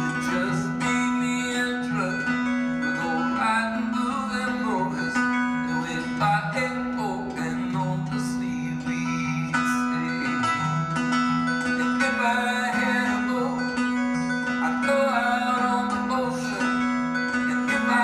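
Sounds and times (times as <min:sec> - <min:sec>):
acoustic guitars playing: 0:00.0 - 0:18.0
person singing: 0:00.0 - 0:18.0.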